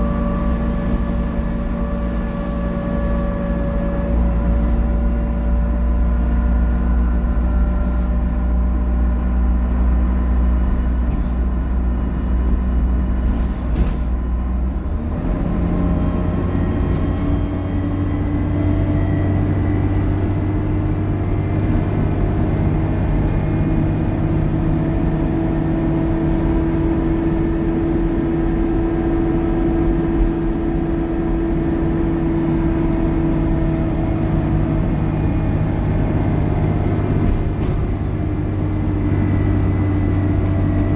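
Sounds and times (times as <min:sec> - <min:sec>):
bus engine whining: 0:00.0 - 0:40.9.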